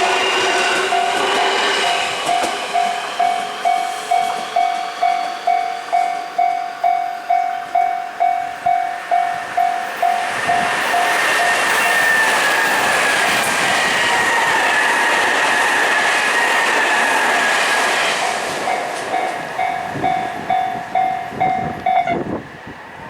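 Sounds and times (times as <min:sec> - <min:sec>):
electric train running: 0:00.0 - 0:23.0
level-crossing warning bell ringing: 0:00.0 - 0:23.0.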